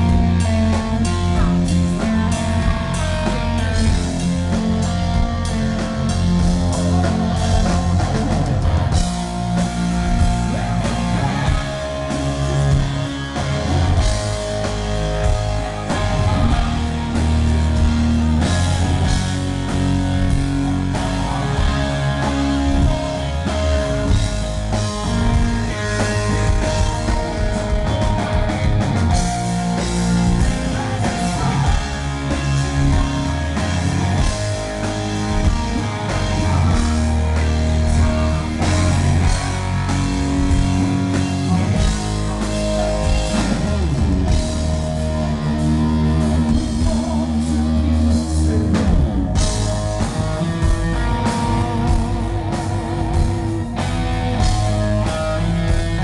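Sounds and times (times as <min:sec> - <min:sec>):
electric guitar: 0:00.0 - 0:56.0
hard rock band playing live: 0:00.0 - 0:56.0.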